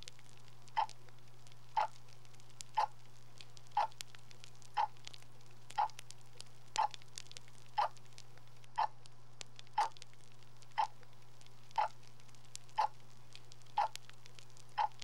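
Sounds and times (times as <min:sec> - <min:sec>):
faint scattered crackle: 0:00.0 - 0:15.0
soft regular ticking: 0:00.0 - 0:15.0
steady low hum: 0:00.0 - 0:15.0.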